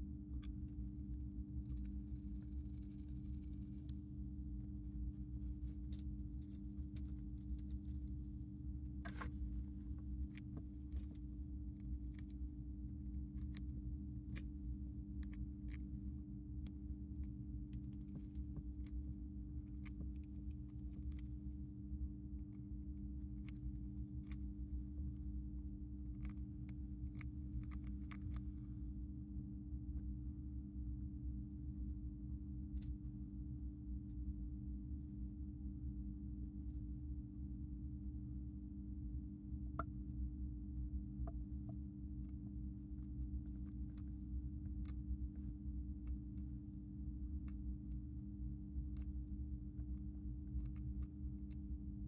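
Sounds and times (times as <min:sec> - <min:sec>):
low steady hum: 0:00.0 - 0:52.0
hamster nibbling dry food: 0:00.3 - 0:04.0, 0:04.8 - 0:28.9, 0:37.8 - 0:52.0.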